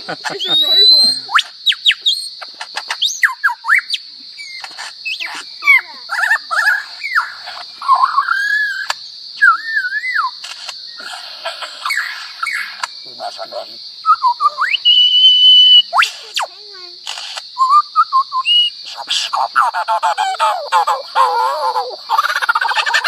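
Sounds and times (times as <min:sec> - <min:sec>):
lyrebird singing: 0:00.0 - 0:23.0.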